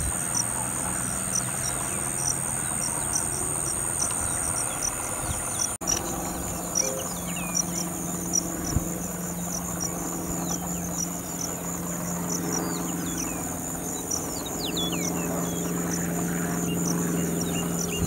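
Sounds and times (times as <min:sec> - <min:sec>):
insects chirping in pulses: 0:00.0 - 0:18.0
low hum: 0:00.0 - 0:18.0.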